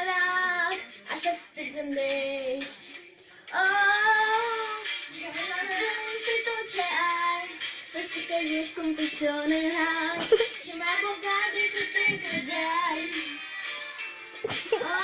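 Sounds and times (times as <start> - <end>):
girl singing into a microphone: 0.0 - 2.9, 3.5 - 13.4, 14.6 - 15.0.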